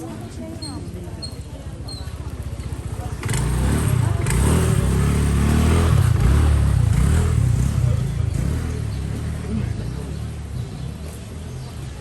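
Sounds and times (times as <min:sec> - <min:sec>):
vehicle engine running: 0:02.1 - 0:11.8.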